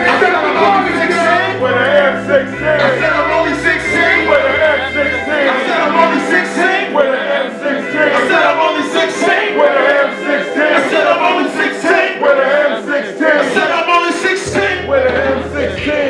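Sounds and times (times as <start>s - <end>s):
crowd chanting: 0.0s - 16.0s
hip hop music: 0.0s - 16.0s
male voices rapping: 0.0s - 16.0s.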